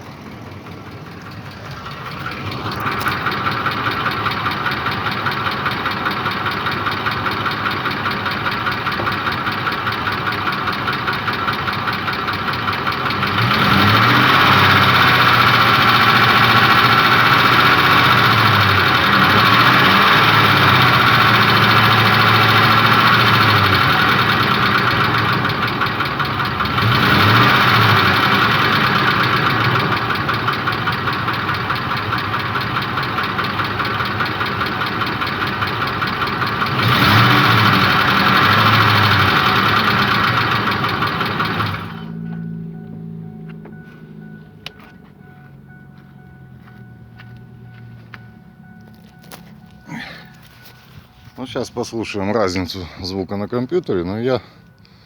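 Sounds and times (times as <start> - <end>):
engine running with knock: 0.0 - 51.2.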